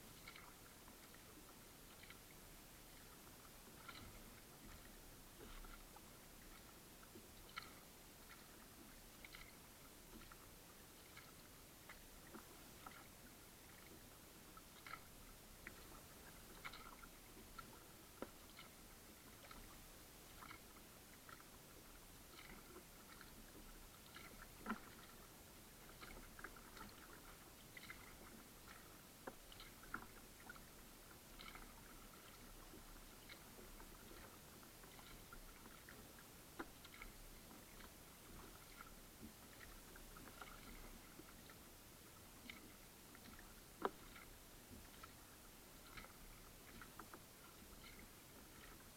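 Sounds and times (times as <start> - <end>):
kayak paddle splashing: 0.0 - 48.9
quiet hiss: 0.0 - 48.9.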